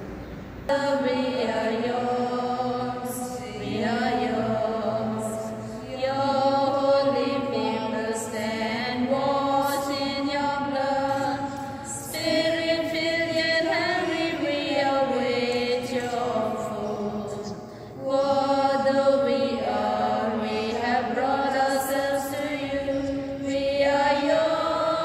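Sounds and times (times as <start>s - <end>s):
voices singing a slow hymn: 0.0s - 25.0s.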